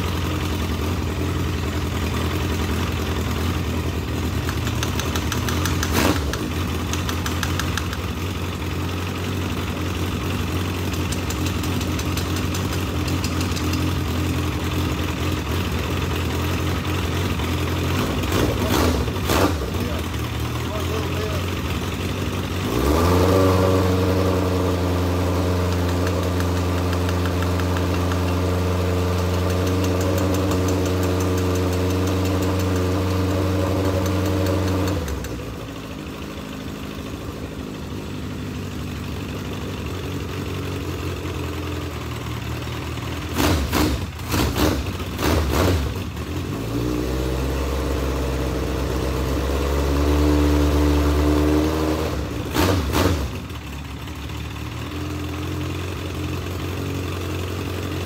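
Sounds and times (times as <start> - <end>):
motorcycle engine revving and idling: 0.0 - 58.0.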